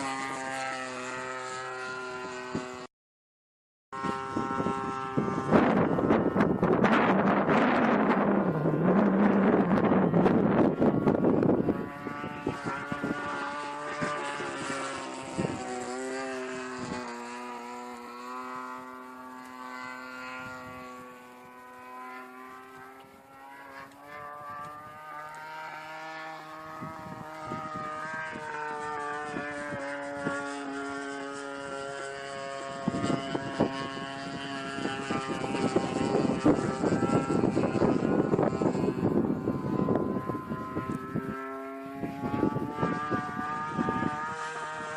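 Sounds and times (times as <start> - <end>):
plane engine and propeller droning: 0.0 - 2.9, 3.9 - 44.9
rushing wind: 4.0 - 22.9, 24.1 - 31.1, 32.3 - 44.9.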